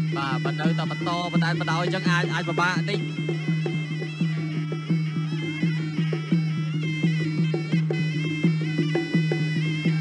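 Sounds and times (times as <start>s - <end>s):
oboe melody: 0.0s - 10.0s.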